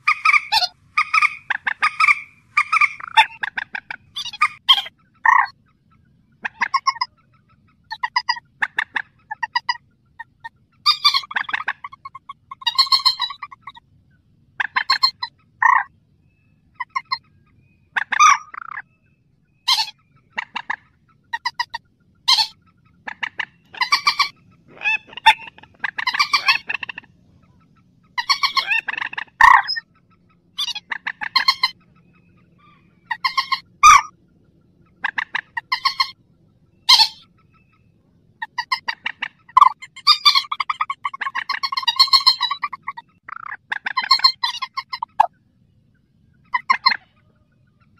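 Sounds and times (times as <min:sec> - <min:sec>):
rail bird calling: 0:00.0 - 0:47.9.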